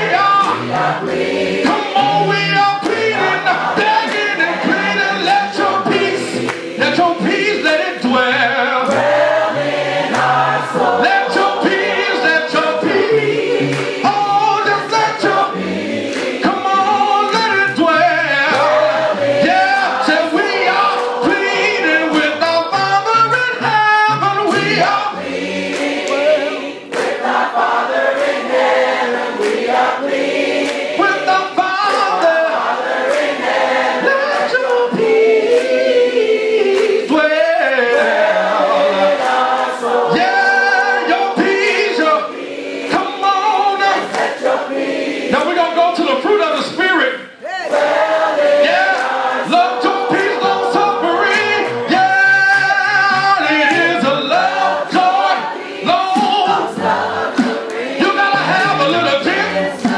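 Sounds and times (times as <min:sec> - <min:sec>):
man singing gospel into microphone: 0:00.0 - 0:26.9, 0:31.0 - 0:59.9
congregation singing along: 0:00.0 - 0:59.9.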